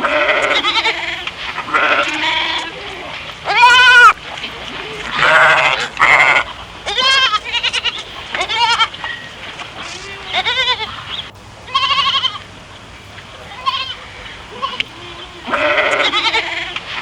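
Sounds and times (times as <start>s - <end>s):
animals bleating: 0.0s - 17.0s.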